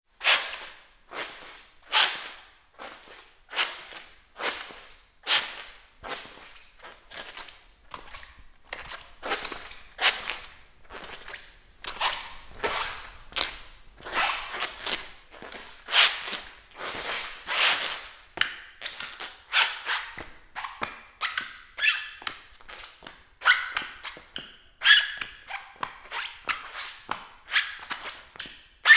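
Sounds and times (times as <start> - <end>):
rubber shoes squeaking: 0.2 - 18.2, 18.8 - 28.3.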